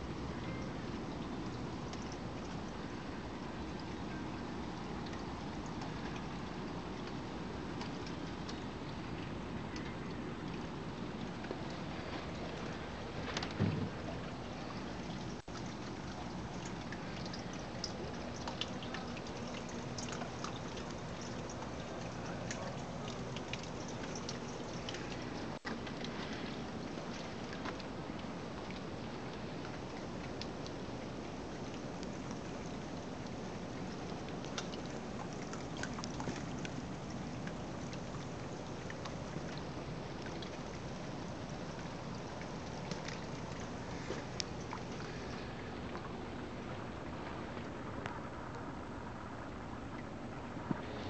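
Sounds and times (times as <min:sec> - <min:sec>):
water fountain trickling: 0:00.0 - 0:51.0.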